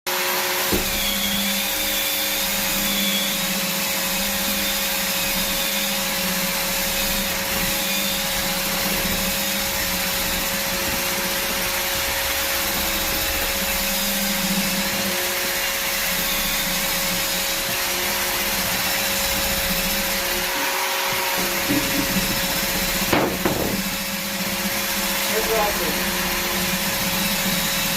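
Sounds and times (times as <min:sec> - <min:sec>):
drywall sander motor whir: 0:00.1 - 0:27.9.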